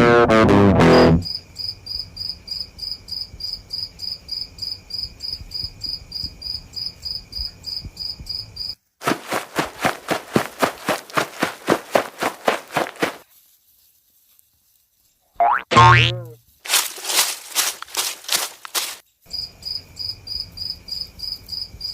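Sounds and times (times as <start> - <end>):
crickets chirping: 1.2 - 15.2, 16.4 - 21.9.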